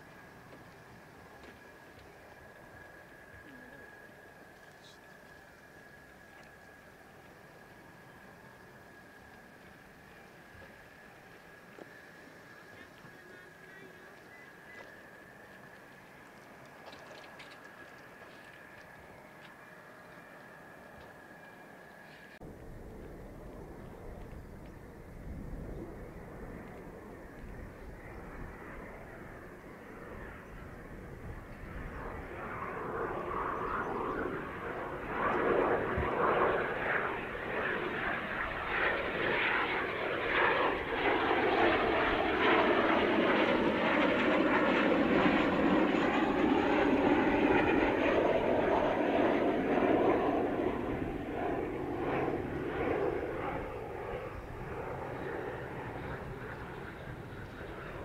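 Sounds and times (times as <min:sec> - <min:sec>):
jet engines on landing approach: 0:00.0 - 0:58.0.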